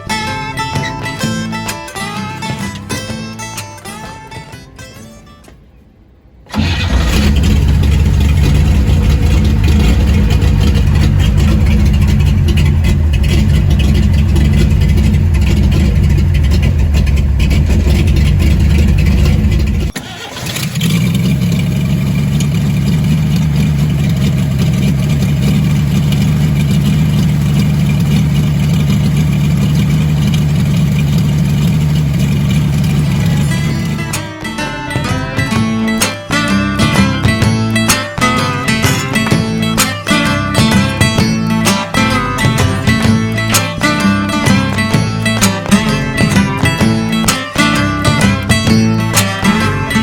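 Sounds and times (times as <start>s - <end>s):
pickup truck engine running: 6.5s - 50.0s.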